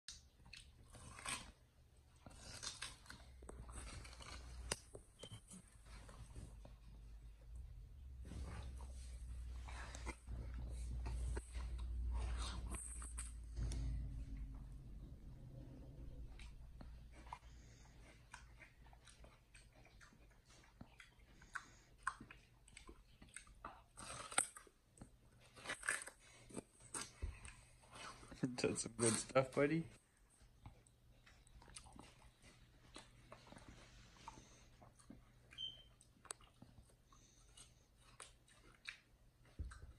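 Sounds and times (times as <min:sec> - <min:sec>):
chimpanzee chewing watermelon: 0:00.1 - 0:07.3, 0:07.9 - 0:14.8, 0:15.9 - 0:29.4, 0:30.3 - 0:39.9.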